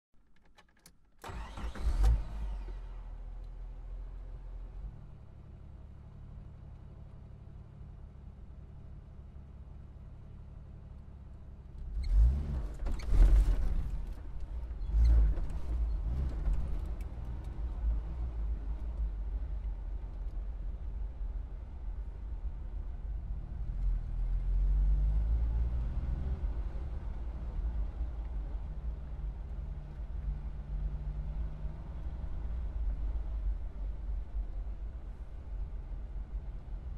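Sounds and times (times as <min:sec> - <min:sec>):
car engine idling and accelerating: 0:01.2 - 0:36.9.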